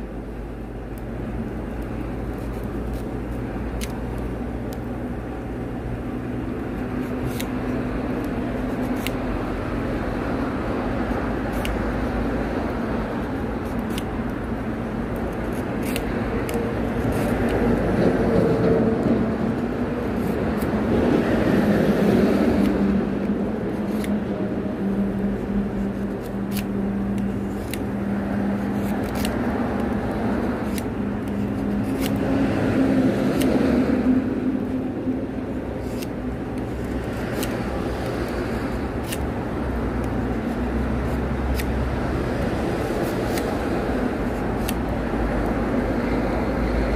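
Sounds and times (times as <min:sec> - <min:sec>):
knife shaving wood: 0:00.0 - 0:46.6.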